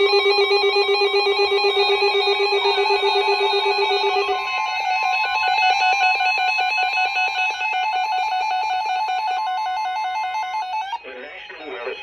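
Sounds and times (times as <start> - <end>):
fast pulsing electronic beeping: 0.0 - 12.0
steady high alarm tone: 0.0 - 12.0.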